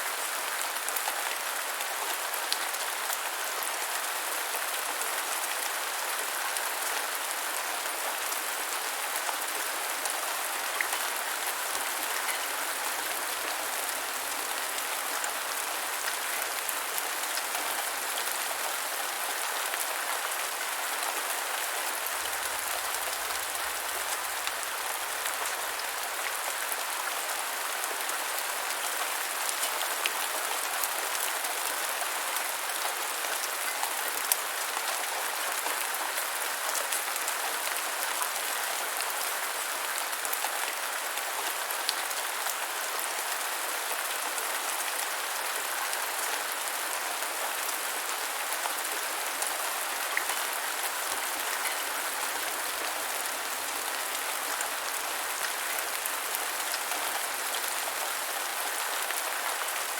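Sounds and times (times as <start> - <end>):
rain hiss on ground: 0.0 - 59.9.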